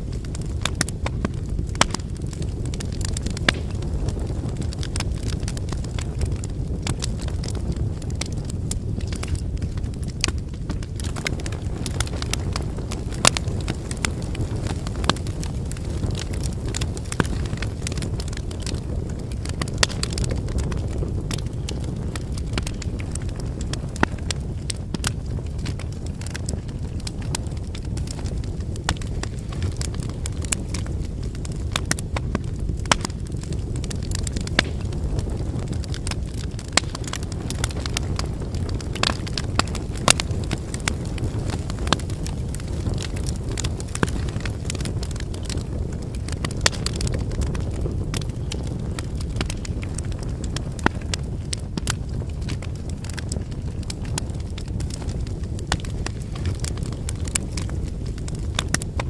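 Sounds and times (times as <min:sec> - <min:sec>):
fire flame rumble: 0:00.0 - 0:59.0
logs crackling and popping: 0:00.0 - 0:59.0.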